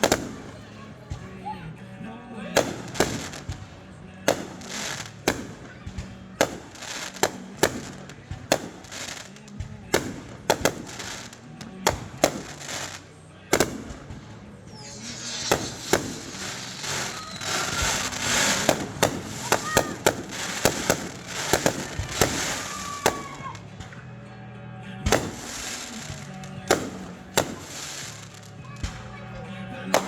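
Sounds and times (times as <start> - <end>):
fireworks bangs: 0.0 - 1.7, 2.3 - 24.0, 25.0 - 30.0
fireworks crackling and hiss: 0.0 - 1.7, 2.3 - 24.0, 25.0 - 30.0.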